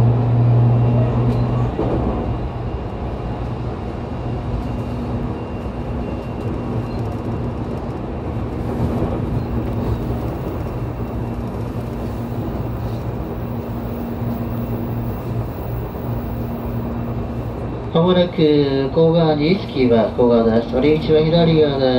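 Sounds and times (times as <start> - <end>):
wheels rumbling on rail: 0.0 - 21.9.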